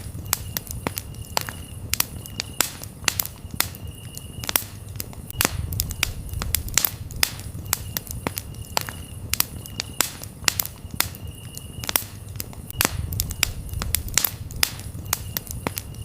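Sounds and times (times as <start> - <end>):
campfire crackling and popping: 0.0 - 16.0
crickets chirping: 0.0 - 16.0
low rumble of burning: 0.0 - 16.0.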